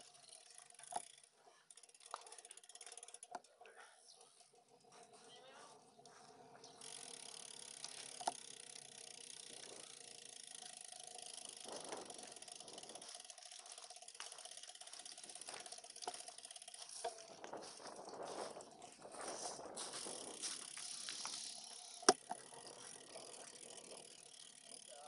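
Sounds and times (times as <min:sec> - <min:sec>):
bicycle freewheel clicking: 0:00.0 - 0:25.0.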